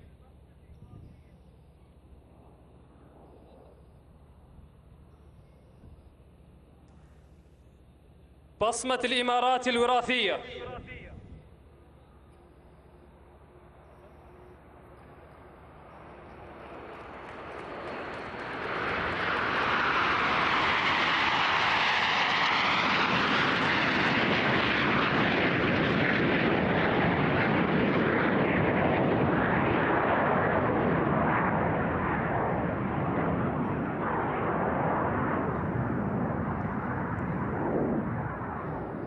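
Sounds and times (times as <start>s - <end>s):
jet aircraft flying past: 0.7s - 39.0s.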